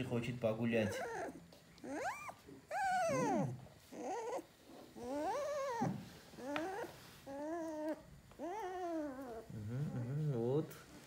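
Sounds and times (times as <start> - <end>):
puppy whining: 0.7 - 11.0.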